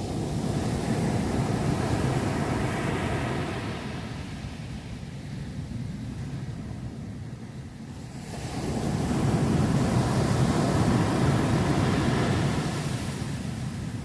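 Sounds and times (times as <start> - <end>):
ocean waves washing ashore: 0.0 - 14.0.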